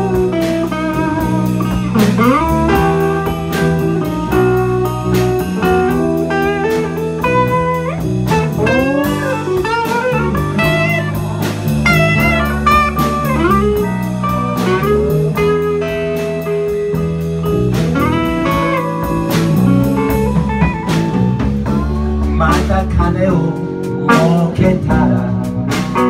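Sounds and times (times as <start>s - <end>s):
drums with cymbal beat: 0.0s - 26.0s
electric guitar lead: 0.0s - 26.0s
low accompaniment: 0.0s - 26.0s.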